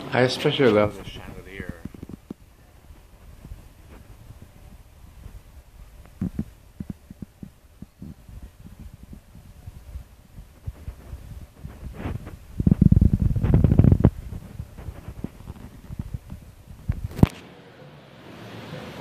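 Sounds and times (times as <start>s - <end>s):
rumbling rub against microphone: 0.2s - 17.3s.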